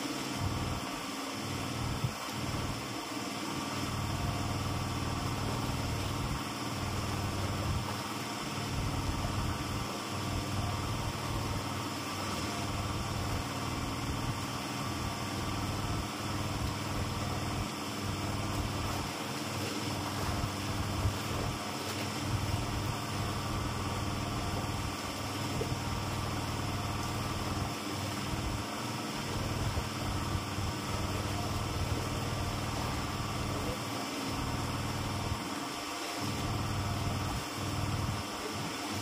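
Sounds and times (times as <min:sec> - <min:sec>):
small engine running: 0:00.0 - 0:39.0.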